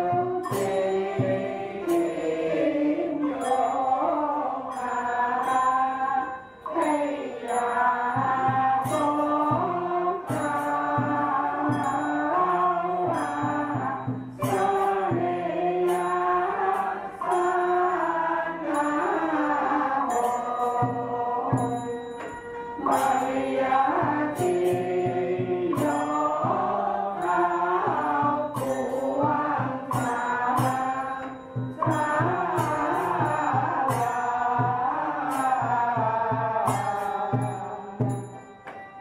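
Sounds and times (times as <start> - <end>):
group chanting in unison: 0.0 - 21.9, 22.8 - 38.3.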